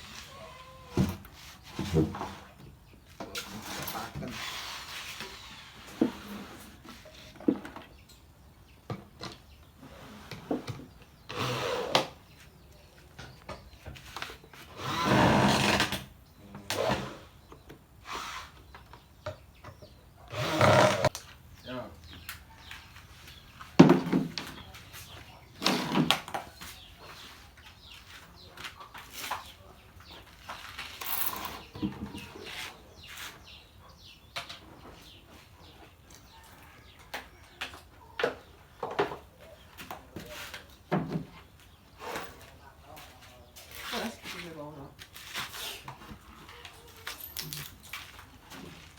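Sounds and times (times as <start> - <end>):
small birds chirping: 0.0 - 15.2, 16.0 - 48.9.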